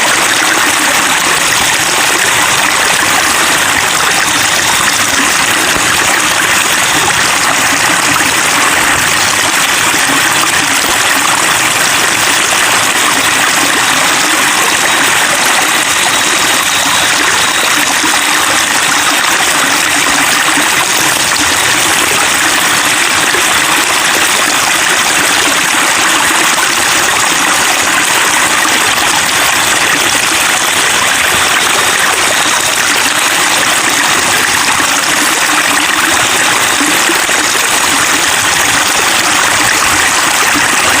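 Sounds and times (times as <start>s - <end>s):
running water babbling: 0.0s - 41.0s.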